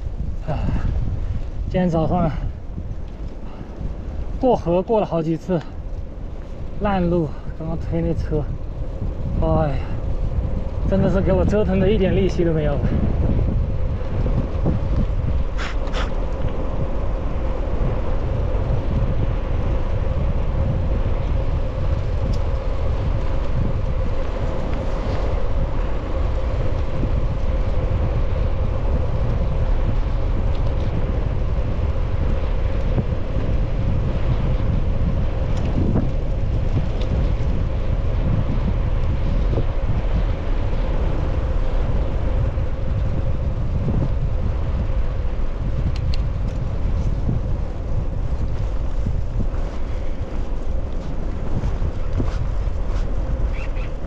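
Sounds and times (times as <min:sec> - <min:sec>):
constant hum: 0:00.0 - 0:54.0
wind buffeting microphone: 0:00.0 - 0:54.0.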